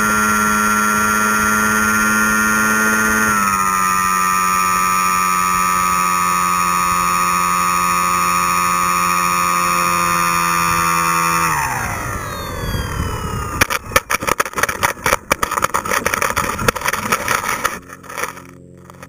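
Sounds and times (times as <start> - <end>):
electric motor and propeller whining: 0.0 - 19.0.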